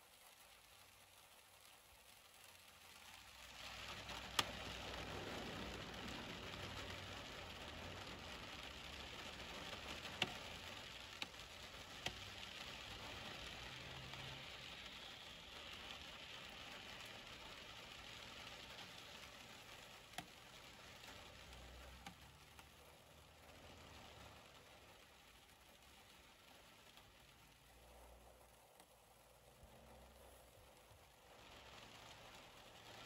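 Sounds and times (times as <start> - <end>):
rain hissing on vehicle: 0.0 - 33.0
raindrops tapping on glass: 1.6 - 33.0.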